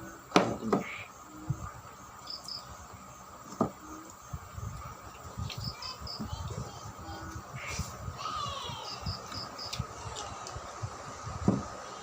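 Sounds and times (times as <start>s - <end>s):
high insect chirps: 0.0s - 10.0s.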